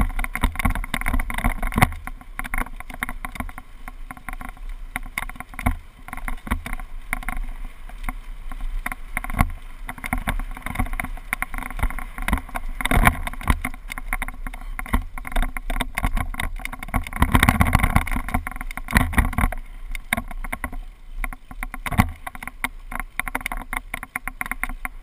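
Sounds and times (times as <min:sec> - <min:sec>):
tyres rumbling on dirt: 0:00.0 - 0:25.0.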